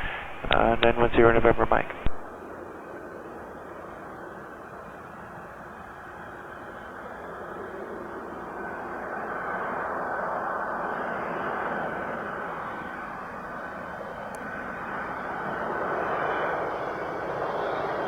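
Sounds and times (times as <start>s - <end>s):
jet engines rushing with high whine: 0.0s - 18.0s.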